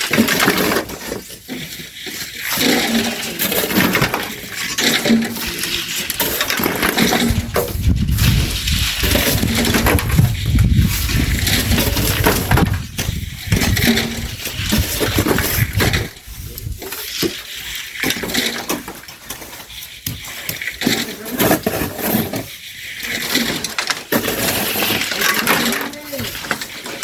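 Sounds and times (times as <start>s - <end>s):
shovels scraping sand and gravel: 0.0s - 27.0s.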